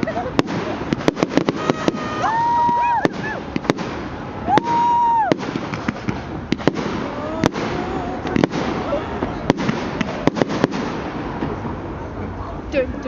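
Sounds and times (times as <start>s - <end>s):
firework whistles: 0.0s - 11.0s
fireworks bangs and crackles: 0.0s - 12.8s.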